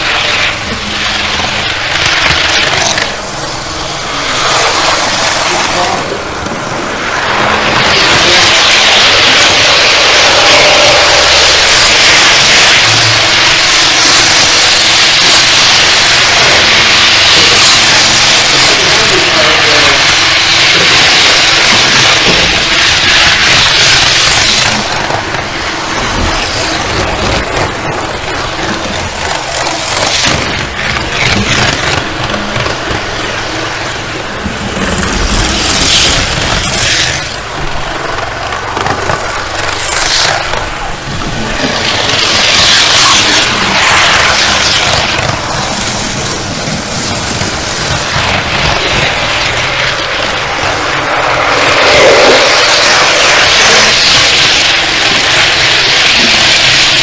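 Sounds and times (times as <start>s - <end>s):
model train rushing on track: 0.0s - 57.0s.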